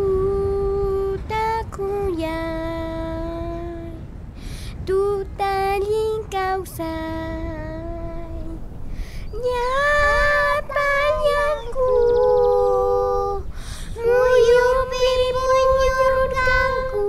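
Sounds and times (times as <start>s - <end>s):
child singing: 0.0s - 4.0s, 4.8s - 8.6s, 9.2s - 17.0s.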